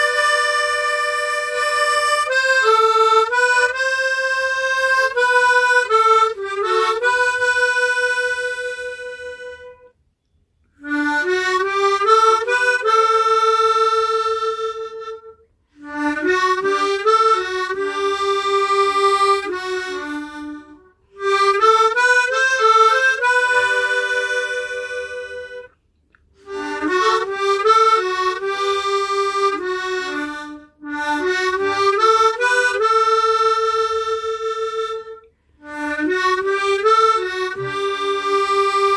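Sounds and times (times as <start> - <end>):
tremolo harmonica melody: 0.0 - 10.0, 10.7 - 38.9.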